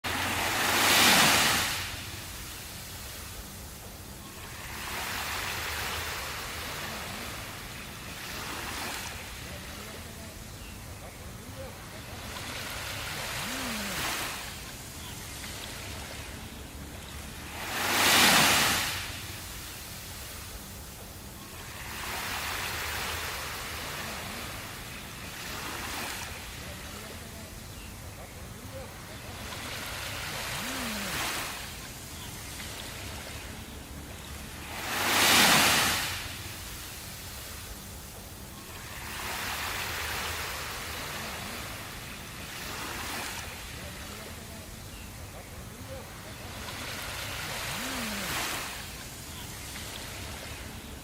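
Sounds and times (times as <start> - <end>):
ocean waves washing: 0.0 - 51.0.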